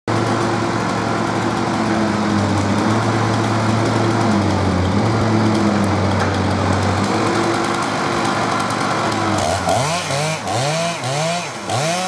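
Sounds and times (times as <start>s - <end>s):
chainsaw engine running: 0.1s - 12.0s.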